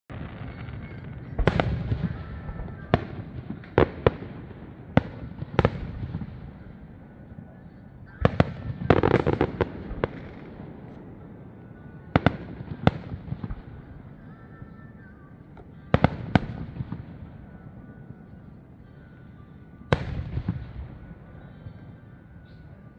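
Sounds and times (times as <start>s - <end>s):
fireworks bursting: 0.1s - 22.9s.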